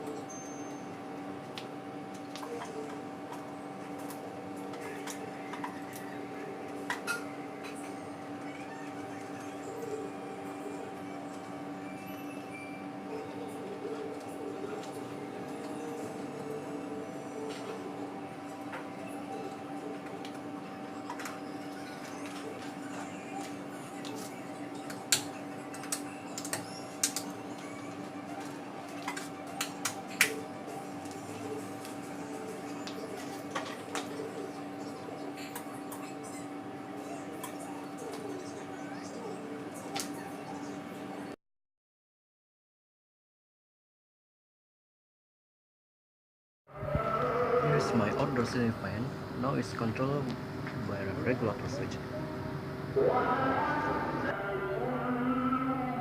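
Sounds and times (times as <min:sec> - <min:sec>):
electrical hum: 0:00.0 - 0:41.4, 0:46.7 - 0:56.0.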